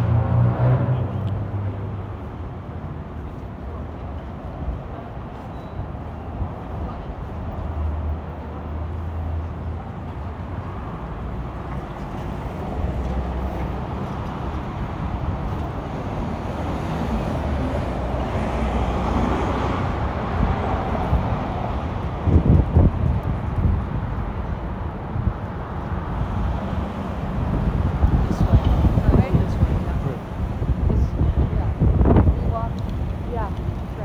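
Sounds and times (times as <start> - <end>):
cars passing: 0.0 - 34.0
traffic engine rumble: 0.0 - 34.0.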